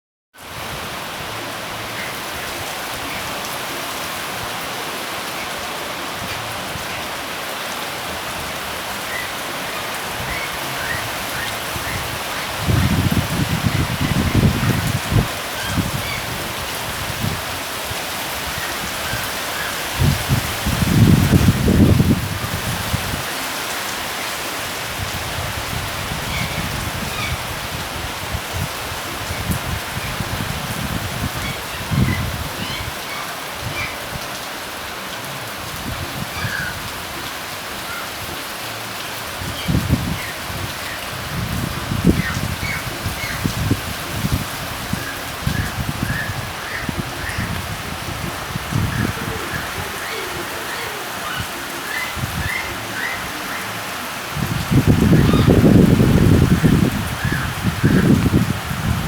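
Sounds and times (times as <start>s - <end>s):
steady rain falling: 0.4s - 59.0s.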